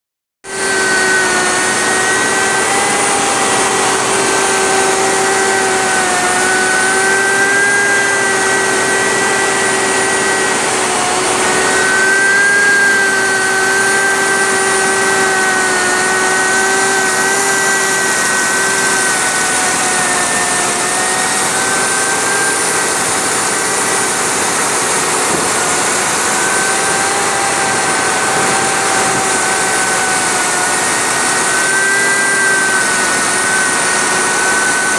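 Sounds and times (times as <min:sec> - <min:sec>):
grinding machine whine: 0:00.4 - 0:34.9.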